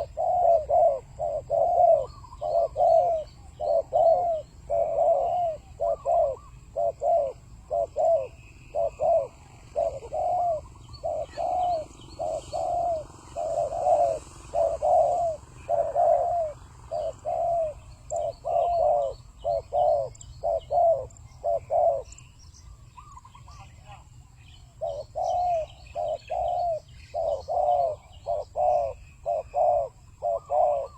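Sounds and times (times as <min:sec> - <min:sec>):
dove cooing: 0:00.0 - 0:24.0, 0:24.7 - 0:30.9
small birds chirping: 0:00.0 - 0:30.9.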